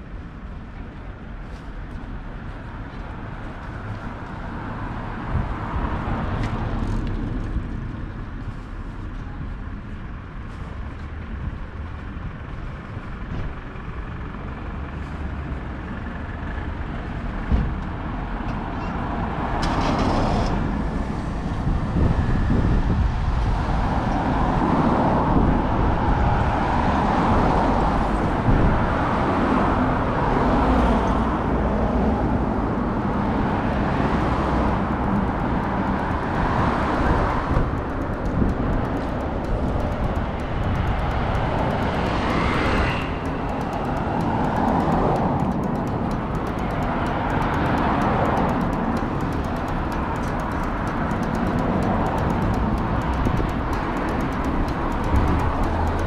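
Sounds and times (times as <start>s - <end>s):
rumble of passing vehicles: 0.0s - 56.0s.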